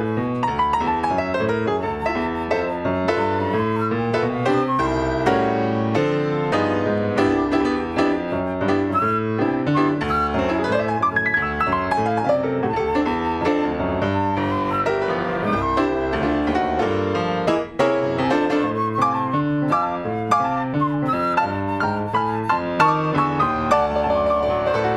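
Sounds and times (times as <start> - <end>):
jazz piano playing: 0.0 - 24.9.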